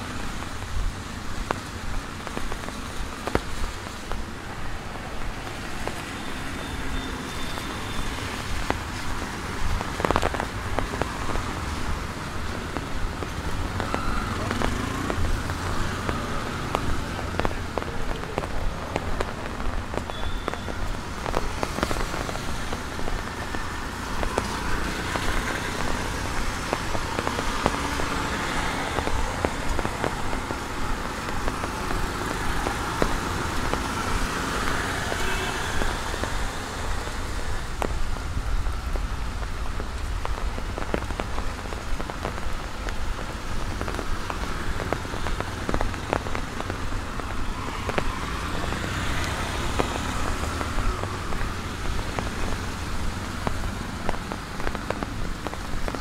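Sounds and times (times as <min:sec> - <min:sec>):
rain drops ticking: 0:00.0 - 0:56.0
traffic tyre hiss on wet road: 0:00.0 - 0:56.0.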